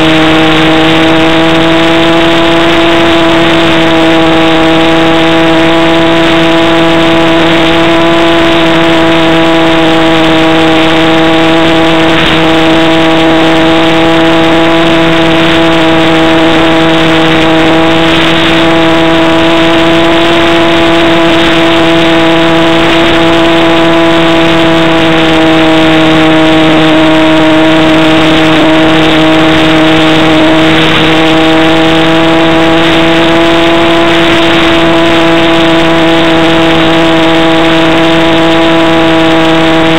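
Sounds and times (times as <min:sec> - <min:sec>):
model airplane motor droning: 0:00.0 - 0:39.9.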